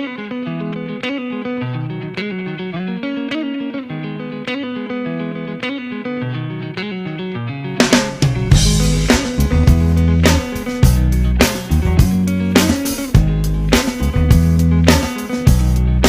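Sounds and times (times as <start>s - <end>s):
electric guitar picked riff: 0.0s - 16.0s.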